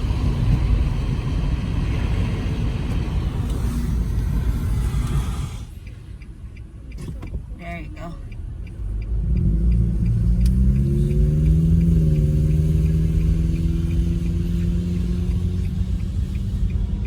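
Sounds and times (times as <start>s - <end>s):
car engine accelerating: 0.0s - 7.2s, 8.2s - 17.0s
road rumble inside car: 0.0s - 17.0s.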